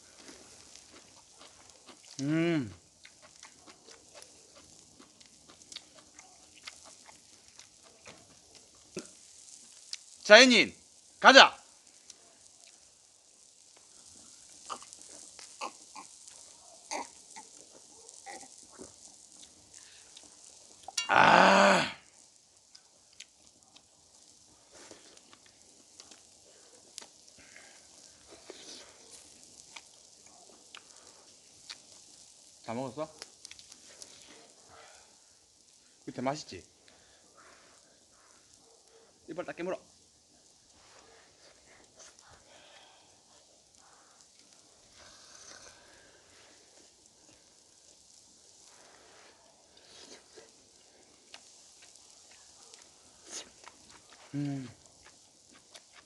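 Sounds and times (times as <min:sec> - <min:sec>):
small clicks and crackles: 0:00.0 - 0:21.1, 0:22.0 - 0:56.0
meat grilling on hot pebbles: 0:00.0 - 0:56.0
chewing: 0:00.2 - 0:10.2, 0:12.0 - 0:21.1, 0:22.7 - 0:34.9, 0:40.3 - 0:56.0.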